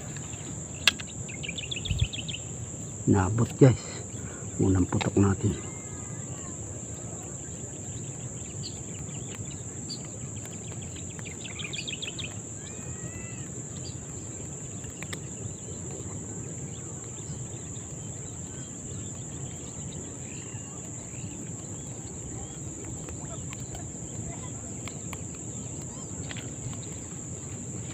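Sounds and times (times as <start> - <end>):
birds chirping: 0.0 - 27.9
insects droning: 0.0 - 27.9.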